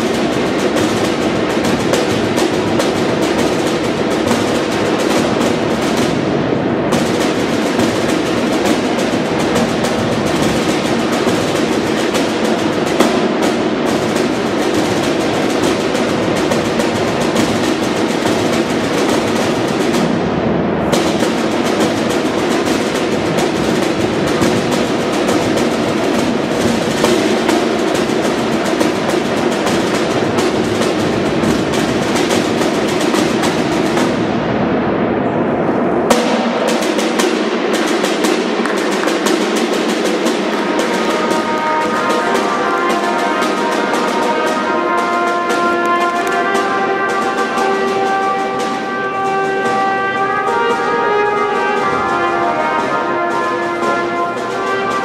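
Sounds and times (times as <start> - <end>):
snare drum rolls: 0.0 - 55.0.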